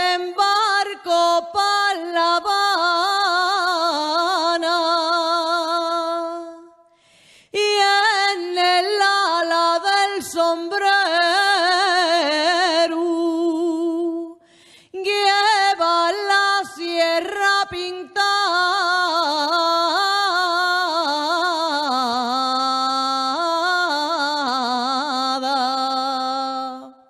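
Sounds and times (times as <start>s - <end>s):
woman singing unaccompanied: 0.0s - 6.8s, 7.6s - 14.4s, 15.0s - 27.0s.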